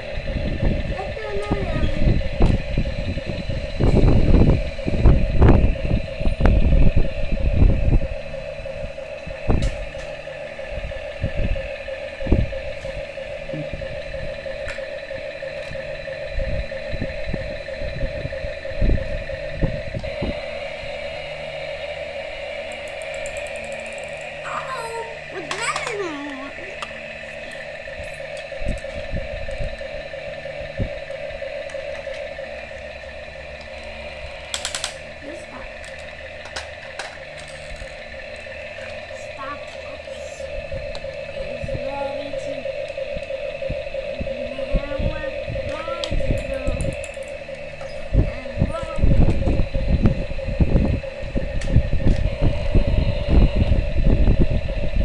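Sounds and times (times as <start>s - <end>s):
low rumbles and thumps: 0.0s - 24.4s, 26.6s - 55.0s
small electric motor whirring: 0.0s - 55.0s.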